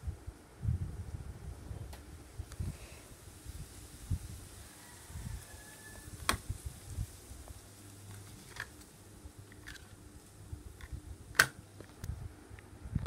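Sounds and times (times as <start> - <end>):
air conditioner humming: 0.0 - 4.7, 6.0 - 13.0.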